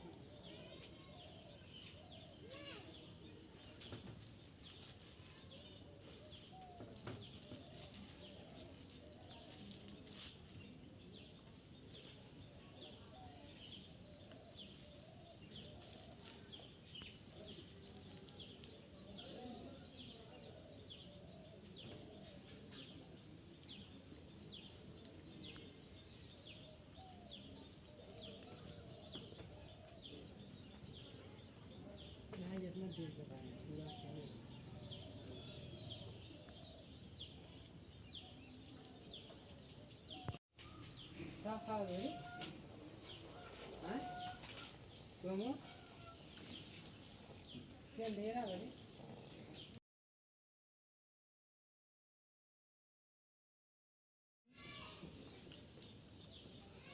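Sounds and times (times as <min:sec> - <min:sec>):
small birds chirping: 0:00.0 - 0:49.8, 0:54.9 - 0:56.9.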